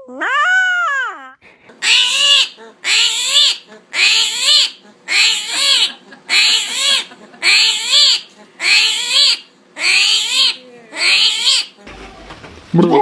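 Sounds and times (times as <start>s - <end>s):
animal calling rising and falling: 0.2s - 11.8s.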